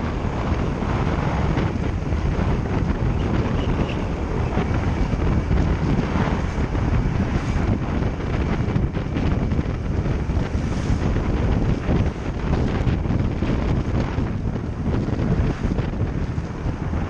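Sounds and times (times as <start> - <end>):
motorbike running: 0.0 - 17.0
wind rushing over microphone: 0.0 - 17.0.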